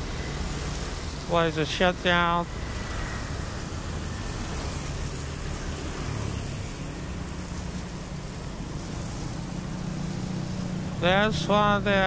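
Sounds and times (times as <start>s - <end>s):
traffic on a wet road: 0.0s - 12.0s.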